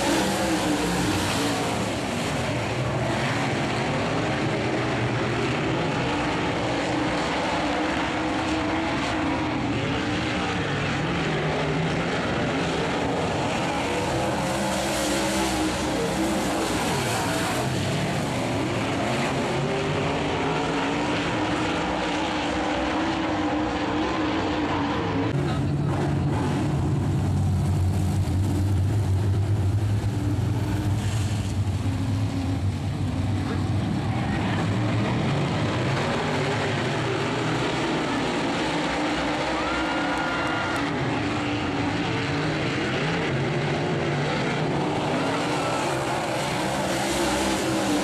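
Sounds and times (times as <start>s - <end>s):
race car engines: 0.0s - 48.0s.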